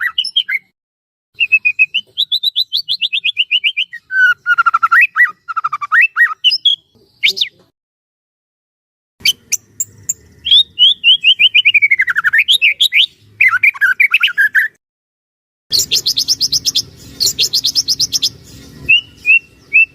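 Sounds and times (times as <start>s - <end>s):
bird singing slurred whistles: 0.0s - 0.7s, 1.4s - 7.6s, 9.2s - 14.8s, 15.7s - 19.9s.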